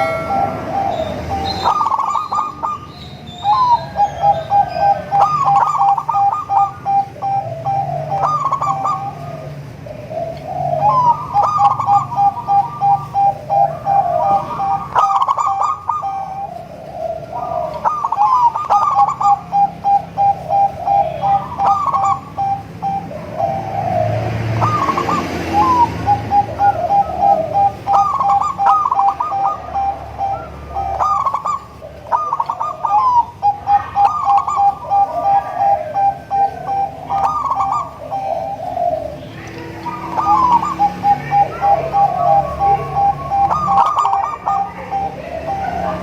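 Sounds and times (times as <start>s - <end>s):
doves cooing: 0.0s - 46.0s
rapid even bird notes: 0.0s - 46.0s.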